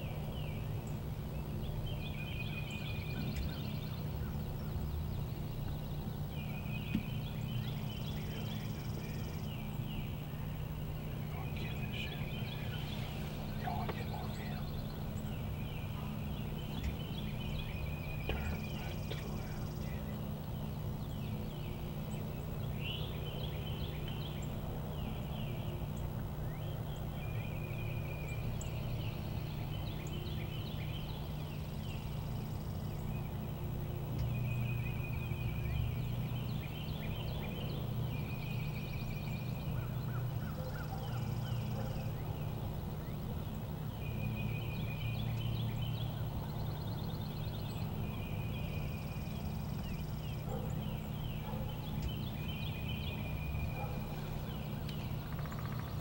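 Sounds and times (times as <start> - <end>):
low hum: 0.0 - 56.0
songbirds chirping and trilling: 0.0 - 56.0.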